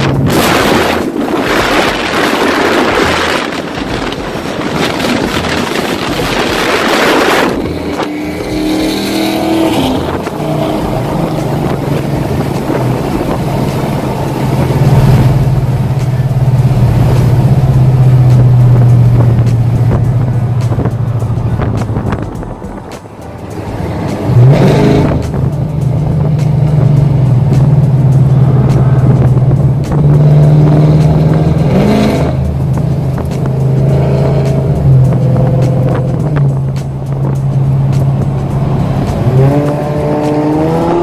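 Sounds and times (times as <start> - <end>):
loud car engine: 0.0 - 41.0.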